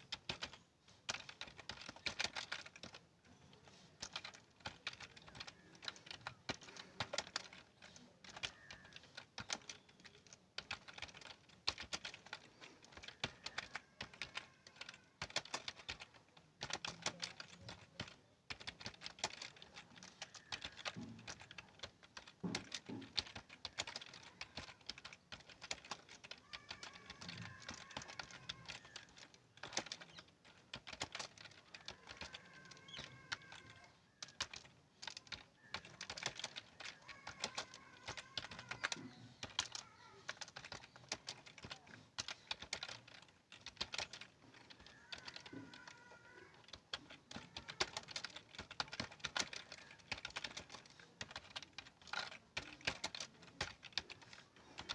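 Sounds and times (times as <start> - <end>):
fast keyboard typing: 0.0 - 54.9.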